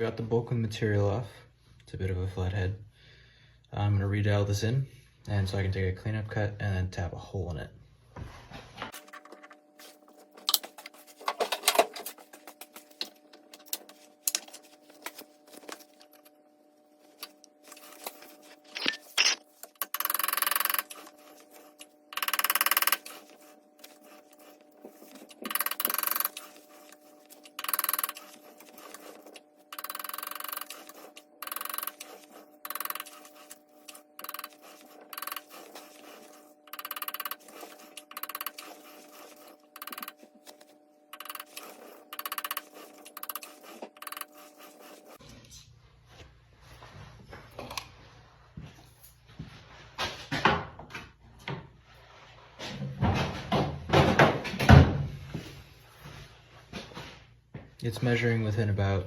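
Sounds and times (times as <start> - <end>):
faint machine hum: 0.0 - 59.0.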